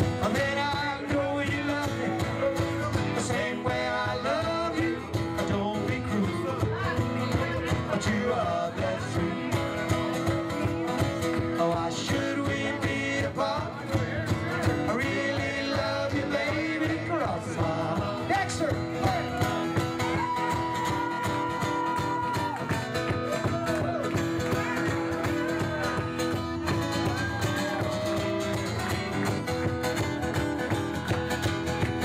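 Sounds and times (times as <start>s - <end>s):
strummed acoustic guitars: 0.0s - 32.0s.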